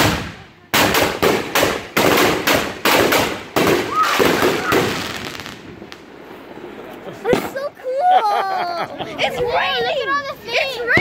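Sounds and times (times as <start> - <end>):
fireworks banging: 0.0 - 8.0, 9.3 - 11.0.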